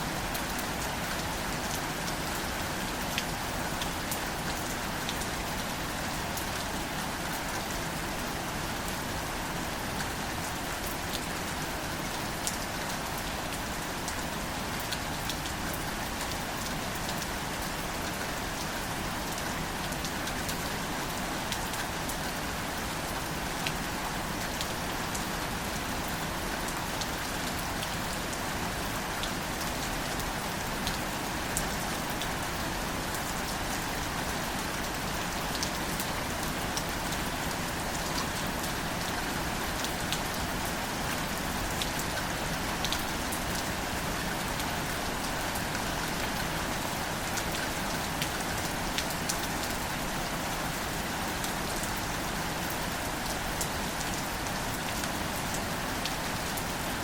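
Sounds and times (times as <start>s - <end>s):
gentle rain on leaves: 0.0s - 57.0s.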